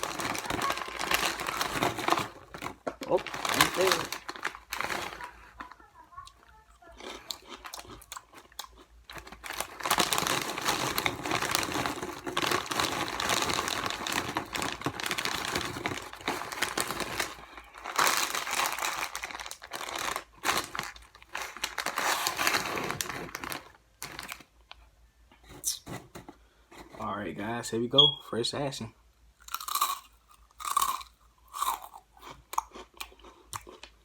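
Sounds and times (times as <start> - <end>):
snack bag crinkling: 0.0 - 24.8, 29.4 - 34.0.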